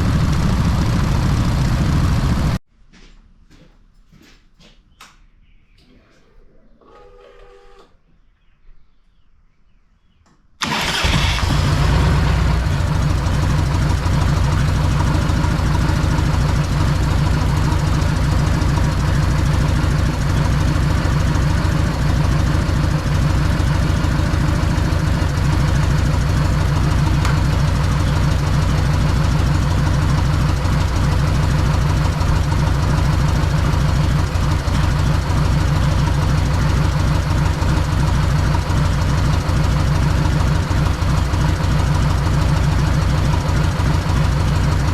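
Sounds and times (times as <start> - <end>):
motorcycle engine running: 0.0 - 2.6, 10.6 - 44.9.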